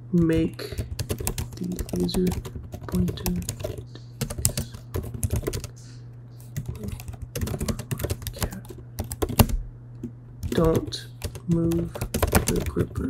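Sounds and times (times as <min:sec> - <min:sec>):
low steady hum: 0:00.0 - 0:13.0
fast typing on keyboard: 0:00.2 - 0:05.7, 0:06.6 - 0:09.6, 0:10.4 - 0:13.0.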